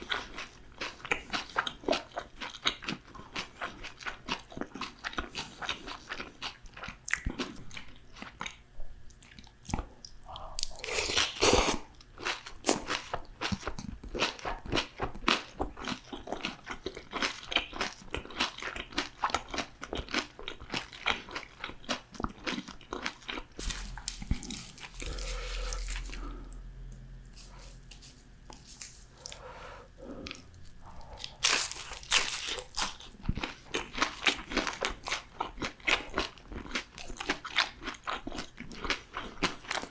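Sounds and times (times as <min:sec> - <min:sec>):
crunching and chewing crisp food: 0:00.0 - 0:39.9.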